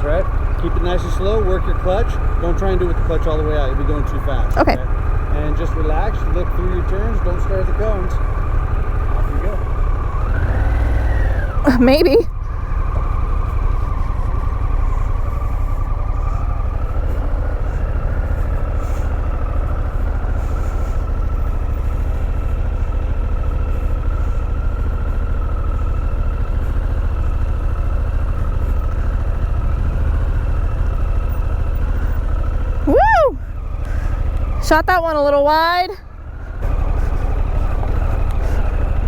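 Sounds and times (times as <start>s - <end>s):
motorcycle engine running slowly: 0.0s - 39.0s.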